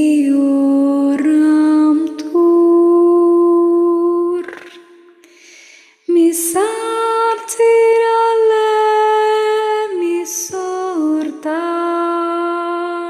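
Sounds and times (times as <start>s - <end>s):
woman singing a chant: 0.0s - 5.1s, 6.0s - 13.0s.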